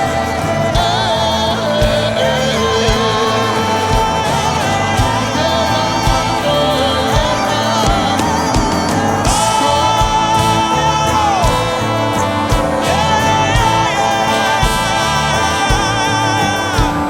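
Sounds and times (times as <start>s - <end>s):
steady music beat: 0.0s - 17.0s.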